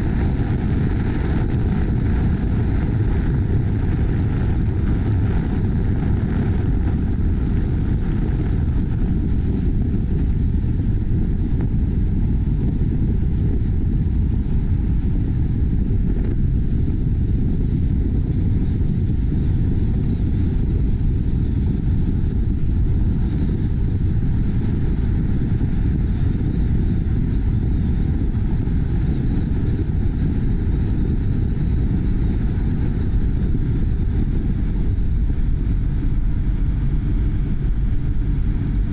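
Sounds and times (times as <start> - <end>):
moving car rumble: 0.0 - 38.9.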